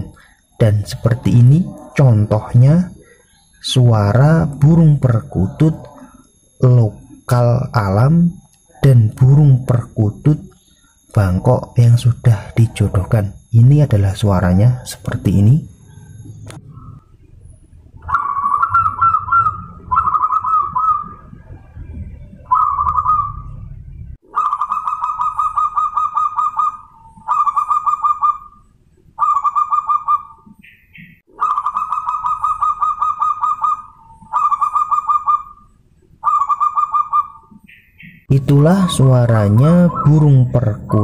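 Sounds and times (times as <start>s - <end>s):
dove cooing: 0.0s - 30.6s, 31.3s - 41.0s.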